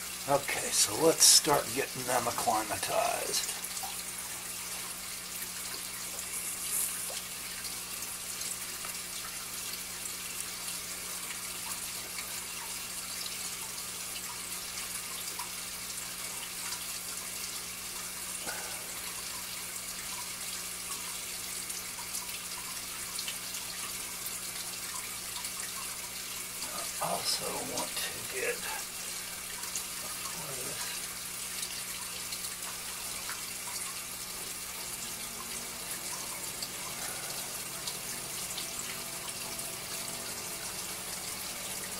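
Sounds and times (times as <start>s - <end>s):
running water hissing: 0.0s - 41.9s.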